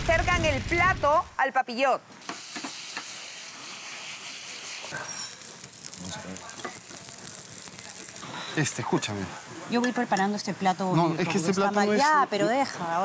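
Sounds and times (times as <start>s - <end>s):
vegetables sizzling in pans: 2.2s - 13.0s.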